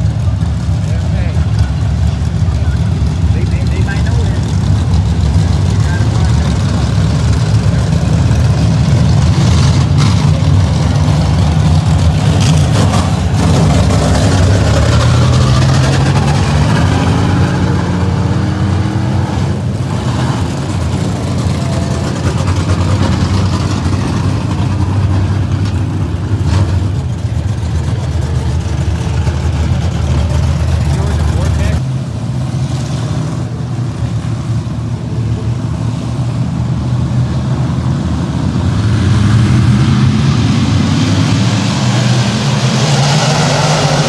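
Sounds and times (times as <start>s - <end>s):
engine accelerating: 0.0s - 31.8s, 35.8s - 44.0s
race car engines roaring: 0.0s - 44.0s.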